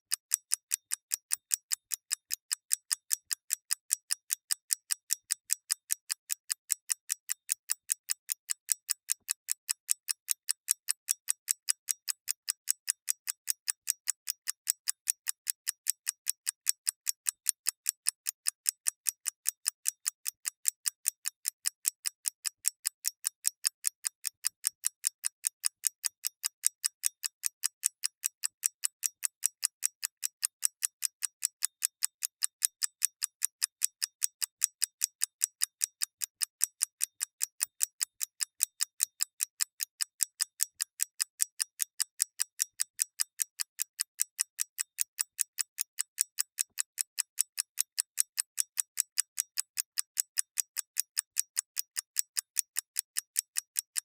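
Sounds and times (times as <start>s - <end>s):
mechanical clock ticking: 0.1s - 54.0s.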